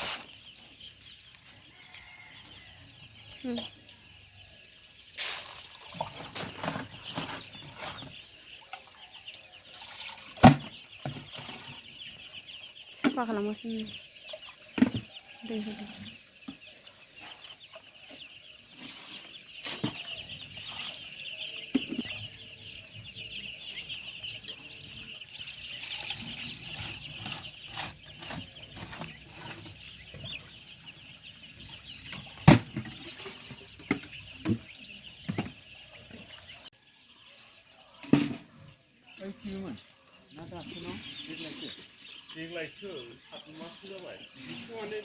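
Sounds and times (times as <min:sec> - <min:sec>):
chickens peeping and clucking: 0:00.0 - 0:45.0.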